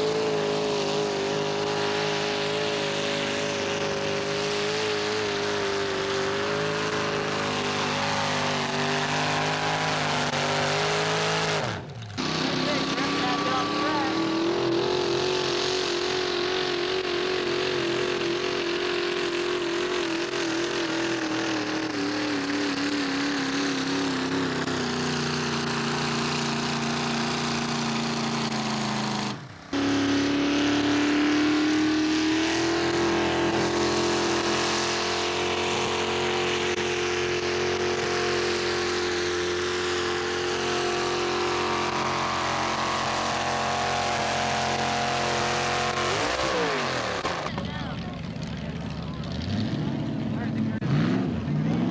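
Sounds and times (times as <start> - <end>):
engine running at steady pitch: 0.0 - 51.9
tractor engine at high revs: 0.0 - 51.9.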